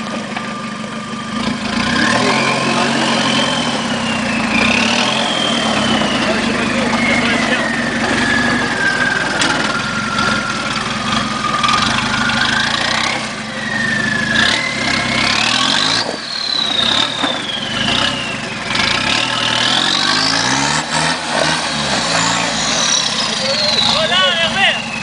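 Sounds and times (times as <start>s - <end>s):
high whine: 0.0s - 25.0s
off-road vehicle engine revving: 0.0s - 25.0s.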